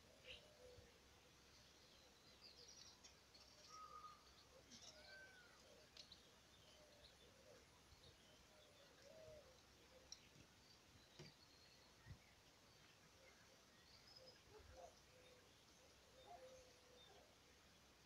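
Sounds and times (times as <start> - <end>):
small birds chirping and trilling: 0.1 - 18.0.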